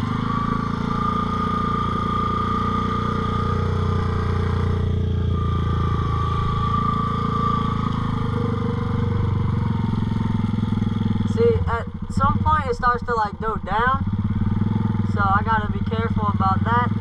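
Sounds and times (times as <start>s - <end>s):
high steady whine: 0.0s - 14.0s
atv engine running: 0.0s - 17.0s.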